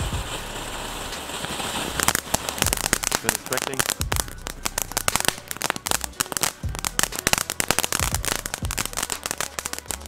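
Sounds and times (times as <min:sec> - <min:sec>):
firework fountain crackling: 0:00.0 - 0:10.0.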